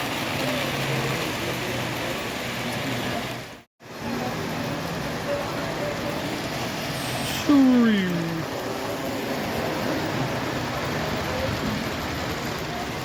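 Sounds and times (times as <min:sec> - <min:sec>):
faint distant voices: 0:00.0 - 0:13.0
model railroad running noise: 0:00.0 - 0:13.0.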